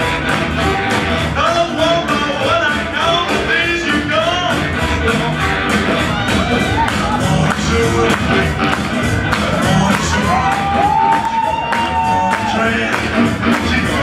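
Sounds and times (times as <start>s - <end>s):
rock and roll music: 0.0s - 14.0s
person singing: 0.6s - 14.0s.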